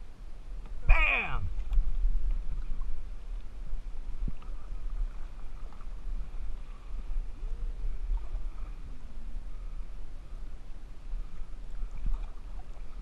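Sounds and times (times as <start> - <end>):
paddle in water: 0.0 - 13.0
wind on microphone: 0.0 - 13.0.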